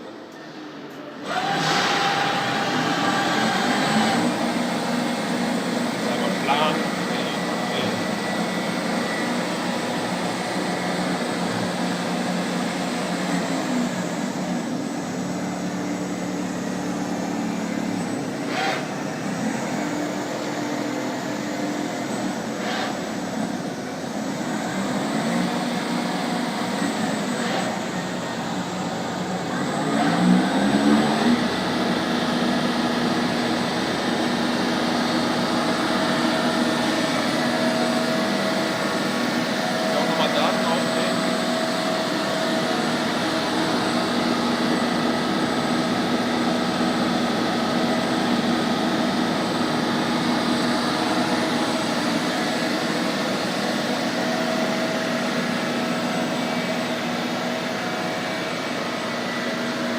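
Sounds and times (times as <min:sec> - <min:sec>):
lathe machine hum: 0:00.0 - 0:59.9.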